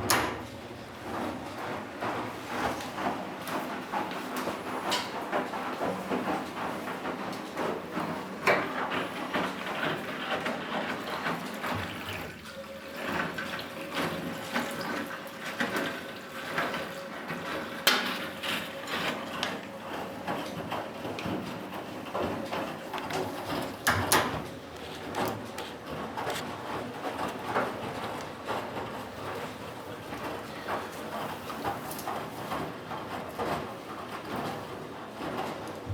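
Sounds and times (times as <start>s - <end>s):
washing machine sloshing: 0.0s - 35.9s.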